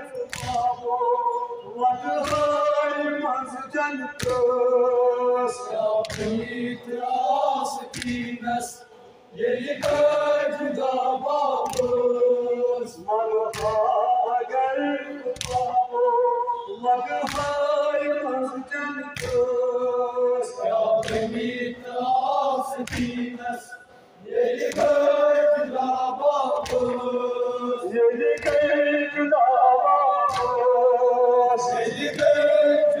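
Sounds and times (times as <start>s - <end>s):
group chanting in unison: 0.0s - 33.0s.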